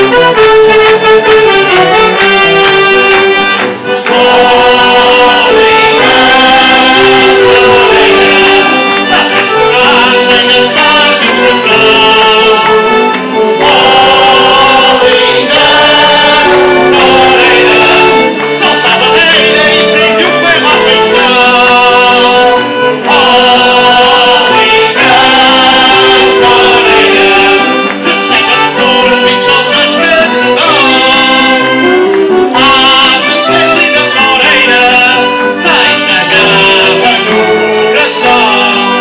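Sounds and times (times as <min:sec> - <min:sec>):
live band with accordion and strings: 0:00.0 - 0:39.0.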